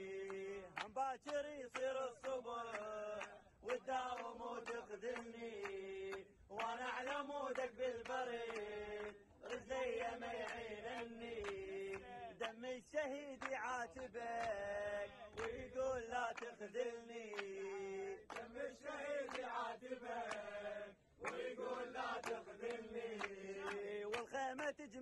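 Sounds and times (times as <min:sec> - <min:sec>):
sharp hand claps: 0:00.0 - 0:24.8
men chanting in unison: 0:00.0 - 0:25.0.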